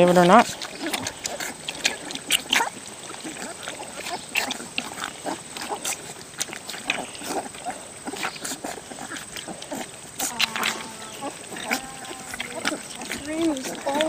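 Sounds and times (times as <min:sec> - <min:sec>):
puppies lapping milk: 0:00.0 - 0:14.0.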